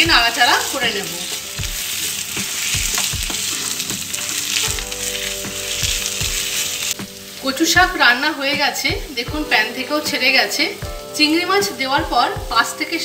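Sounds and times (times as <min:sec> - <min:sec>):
wooden spatula stirring: 0:00.0 - 0:12.6
food sizzling in a wok: 0:00.0 - 0:13.0.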